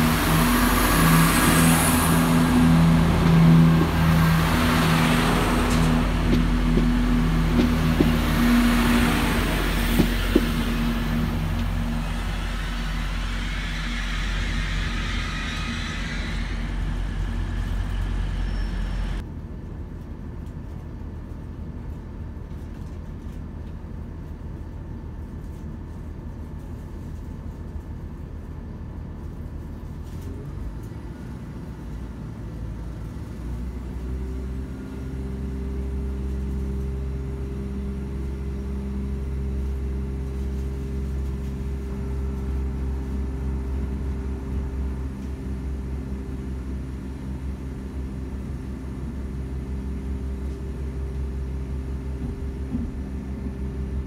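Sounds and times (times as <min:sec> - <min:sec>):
diesel train engine droning: 0:00.0 - 0:20.4, 0:26.5 - 0:54.0
train noise at platform: 0:00.0 - 0:20.6, 0:21.6 - 0:54.0.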